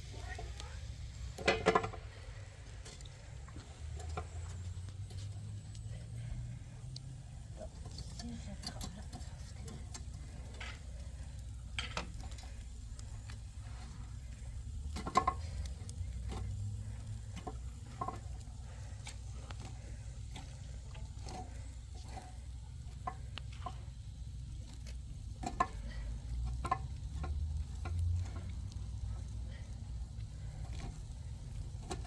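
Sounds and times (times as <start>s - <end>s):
low steady rumble: 0.0s - 32.0s.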